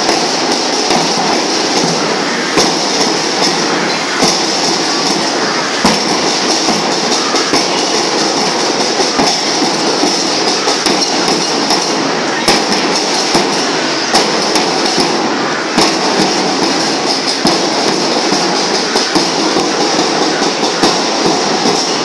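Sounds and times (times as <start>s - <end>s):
loud drum strikes: 0.0s - 22.0s
snare drum rattle: 0.0s - 22.0s.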